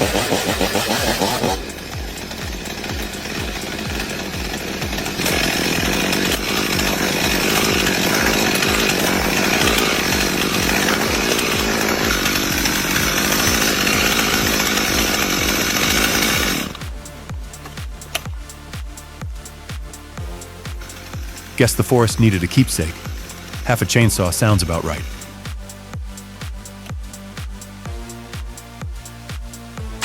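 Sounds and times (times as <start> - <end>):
background music with beat: 0.0 - 30.0
chainsaw running: 0.0 - 30.0.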